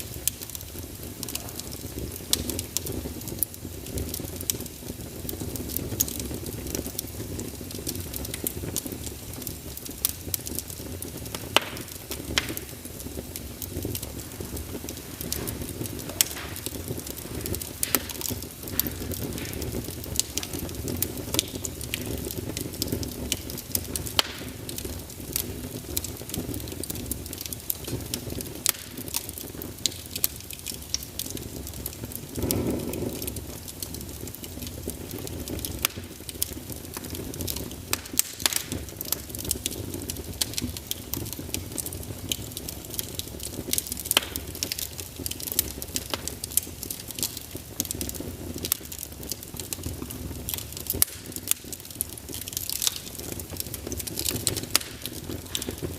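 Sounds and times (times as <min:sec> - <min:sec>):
low rush of flame: 0:00.0 - 0:55.9
wood fire crackles and pops: 0:00.0 - 0:55.9.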